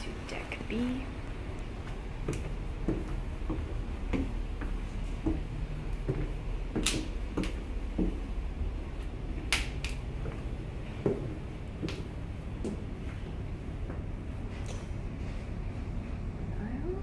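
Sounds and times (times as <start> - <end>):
steady low hum: 0.0 - 17.0
footsteps on wooden staircase: 0.9 - 16.1.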